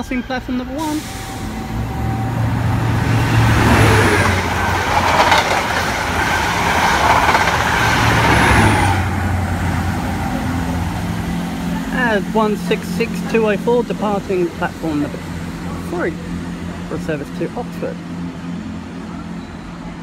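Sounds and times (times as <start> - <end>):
diesel engine drone: 0.0 - 20.0
train wheel and rail noise: 0.0 - 20.0.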